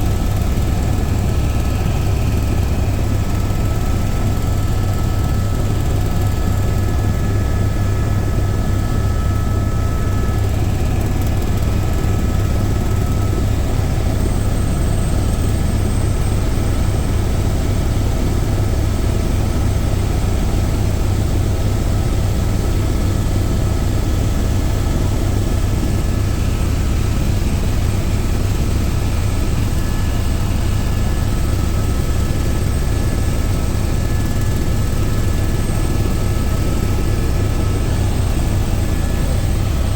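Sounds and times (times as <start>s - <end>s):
helicopter drone inside cabin: 0.0s - 39.9s.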